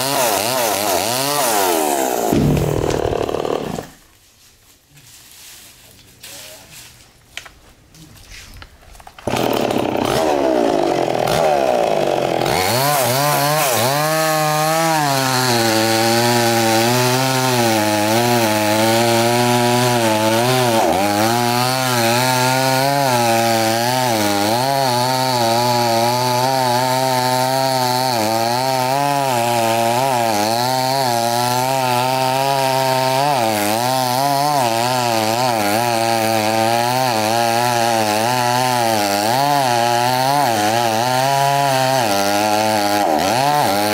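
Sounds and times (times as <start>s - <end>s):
chainsaw cutting wood: 0.0s - 4.1s, 9.0s - 43.9s.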